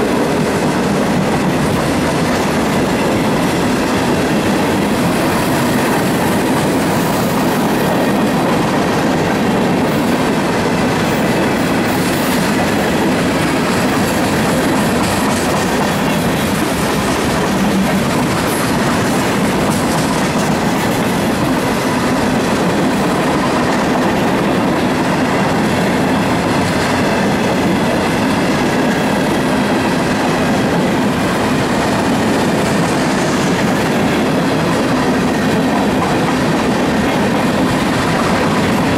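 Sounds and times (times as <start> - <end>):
freight train cars rolling: 0.0 - 38.9
steel wheels on rails: 0.0 - 38.9.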